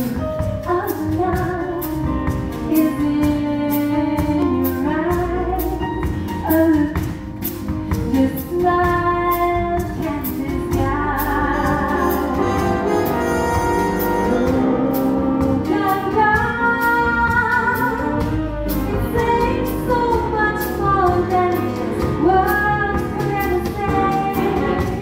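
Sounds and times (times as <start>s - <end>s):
woman singing: 0.0s - 7.4s, 8.0s - 25.0s
big band playing: 0.0s - 25.0s.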